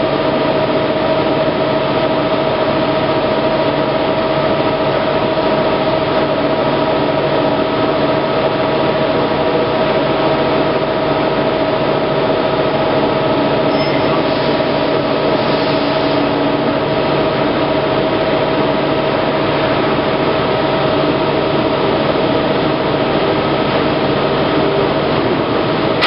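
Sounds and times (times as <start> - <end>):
machine hum with whining tone: 0.0 - 26.0.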